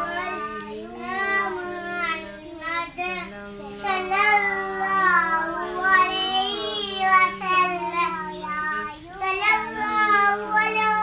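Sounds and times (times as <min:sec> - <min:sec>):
young child singing: 0:00.0 - 0:11.0.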